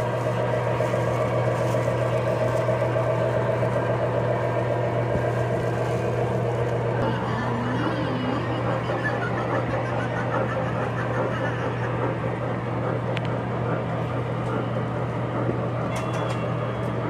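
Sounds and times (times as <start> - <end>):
mechanical hum with whirring rattle: 0.0 - 17.0.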